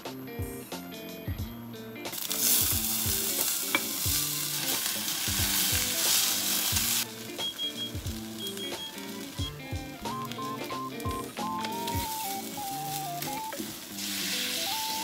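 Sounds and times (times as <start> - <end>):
background music with beat: 0.0 - 15.0
potato sizzling in hot oil: 2.0 - 15.0.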